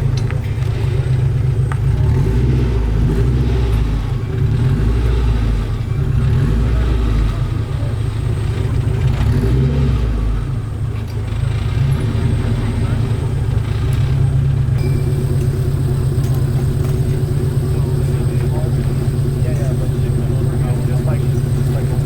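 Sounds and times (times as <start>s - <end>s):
car engine rumbling with revs: 0.0s - 22.0s.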